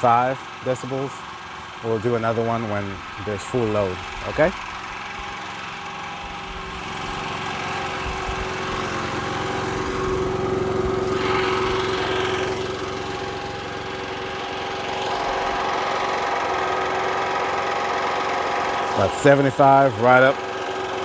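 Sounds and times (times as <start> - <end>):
generator engine idling: 0.0 - 21.0.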